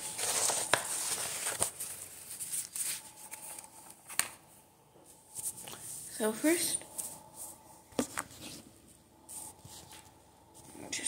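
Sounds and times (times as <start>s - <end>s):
paper rustling and shuffling: 0.0s - 6.1s, 6.9s - 10.8s.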